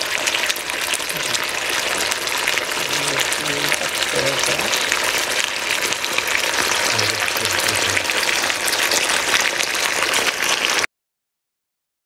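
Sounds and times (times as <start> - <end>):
food sizzling in a hot pan: 0.0 - 10.9.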